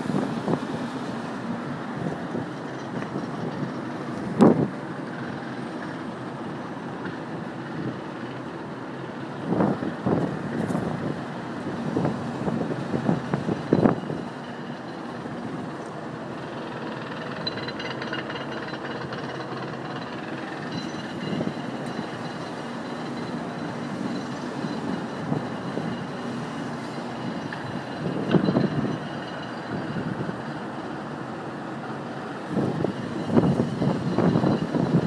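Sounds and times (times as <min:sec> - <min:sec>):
urban traffic rumble: 0:00.0 - 0:35.0.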